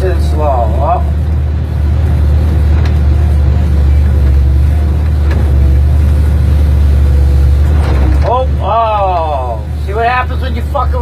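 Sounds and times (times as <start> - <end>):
diesel engine droning: 0.0 - 11.0
faint steady whine: 0.0 - 11.0.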